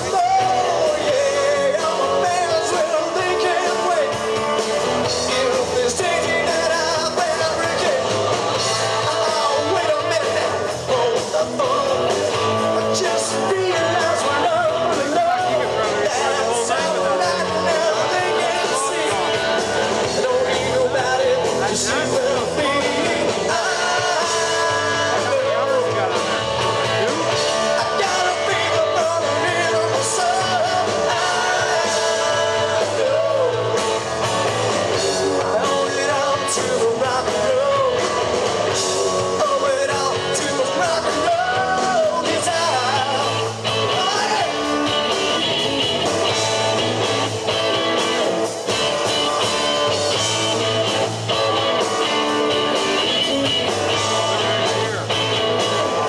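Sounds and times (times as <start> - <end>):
lead singer singing: 0.0 - 46.4, 51.8 - 56.0
drum kit: 0.0 - 56.0
electric guitars: 0.0 - 56.0.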